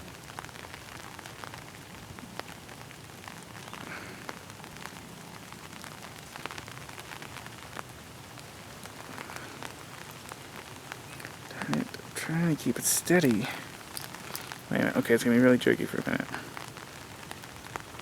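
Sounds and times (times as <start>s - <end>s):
raindrop ticks: 0.0s - 18.0s
steady rain hiss: 0.0s - 18.0s.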